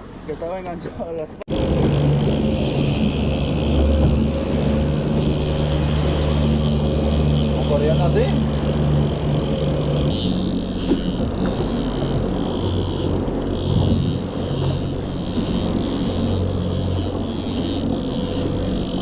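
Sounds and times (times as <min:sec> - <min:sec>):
boat motor running: 0:00.0 - 0:19.0
wind and water rushing: 0:00.0 - 0:19.0.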